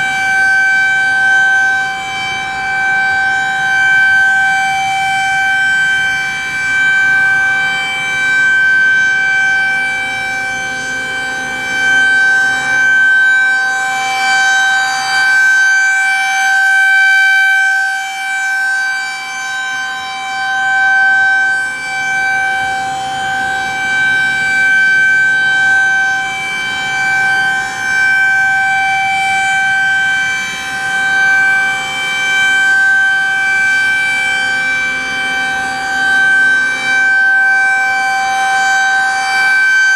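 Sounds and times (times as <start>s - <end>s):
rotating warning siren steady tone: 0.0s - 39.9s
second warning siren: 0.0s - 39.9s.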